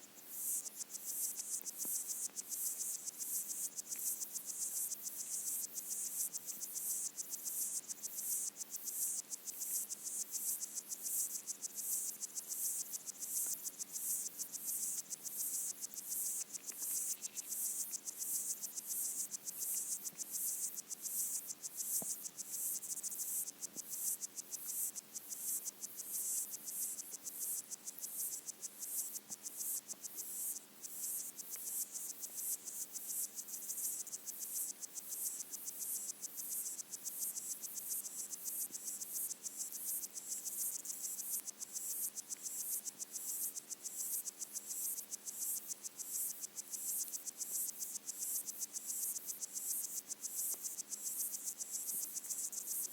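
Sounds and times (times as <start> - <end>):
water insects chirring underwater: 0.2 - 44.2.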